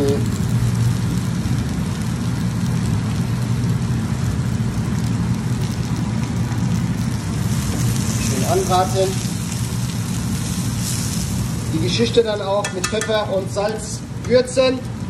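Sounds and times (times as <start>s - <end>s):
vegetables sizzling in a pan: 0.0s - 14.6s
constant low hum: 0.0s - 15.0s.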